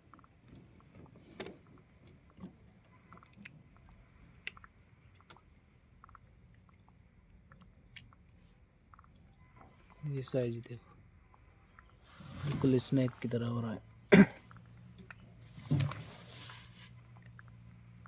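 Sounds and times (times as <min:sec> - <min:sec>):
low steady background noise: 0:00.0 - 0:18.0.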